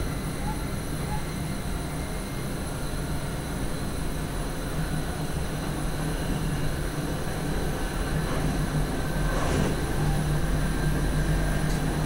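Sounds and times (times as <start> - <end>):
electric train hum and rumble: 0.0 - 12.0.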